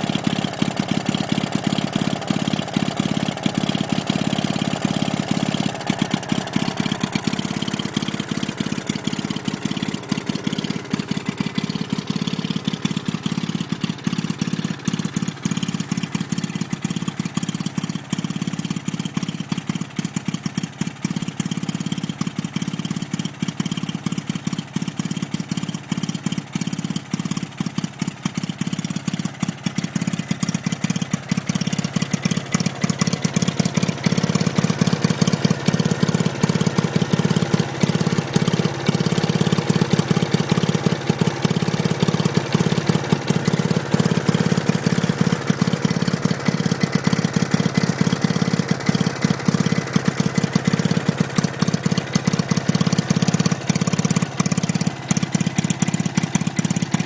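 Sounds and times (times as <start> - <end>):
two-stroke engine running: 0.0 - 57.0.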